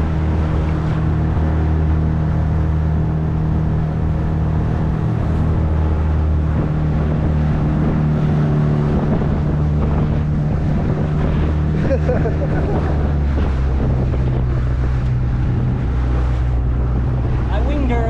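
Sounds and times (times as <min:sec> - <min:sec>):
motorboat engine droning: 0:00.0 - 0:18.0
water and hull noise: 0:00.0 - 0:18.0.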